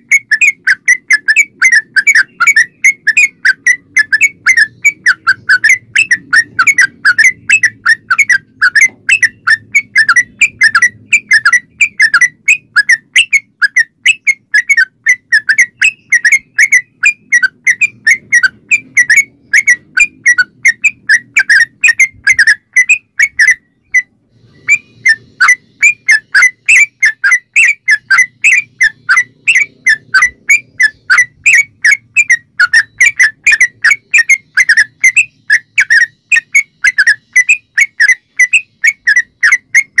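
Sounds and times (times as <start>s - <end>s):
bulbul singing whistled notes: 0.0s - 40.0s.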